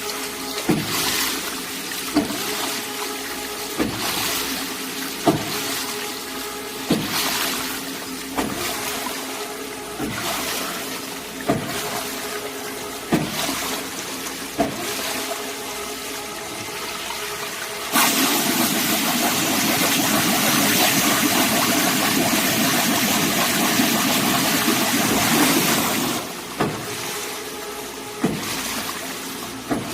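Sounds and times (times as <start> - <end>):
machine humming: 0.0 - 29.9
rush of water: 0.0 - 29.9.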